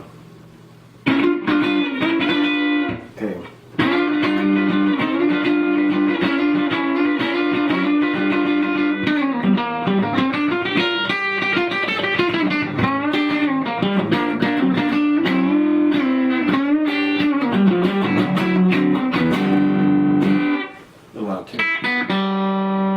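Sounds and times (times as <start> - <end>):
electric guitar lick: 1.0 - 22.9.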